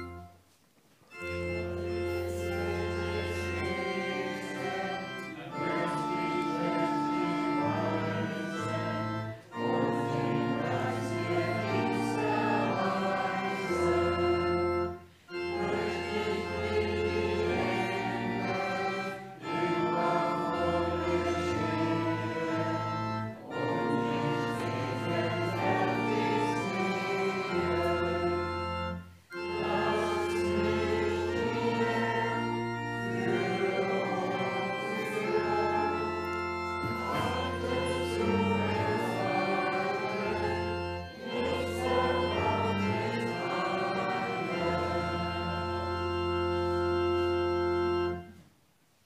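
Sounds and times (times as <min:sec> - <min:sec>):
congregation singing a hymn: 0:00.0 - 0:00.4, 0:01.1 - 0:48.4
pipe organ: 0:00.0 - 0:49.0.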